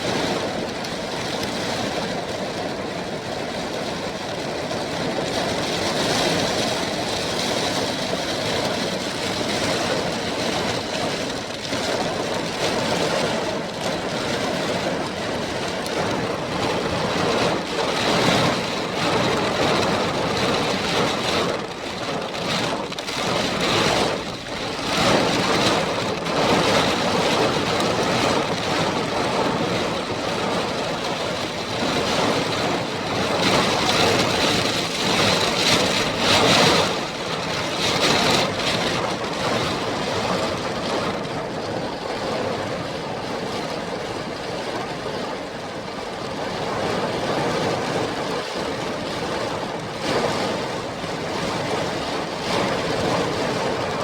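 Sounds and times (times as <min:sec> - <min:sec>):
heavy rain with wind: 0:00.0 - 0:54.0.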